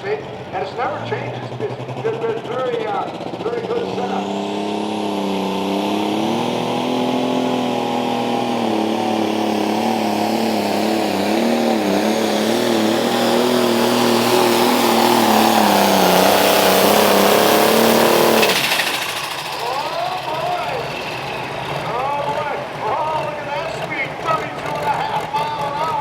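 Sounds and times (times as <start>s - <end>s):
tractor engine running flat out: 0.0s - 26.0s.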